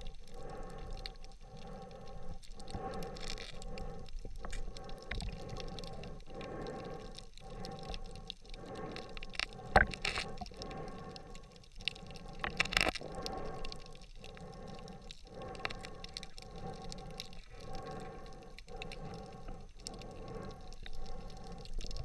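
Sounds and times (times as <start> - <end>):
muffled underwater water noise: 0.0 - 22.0.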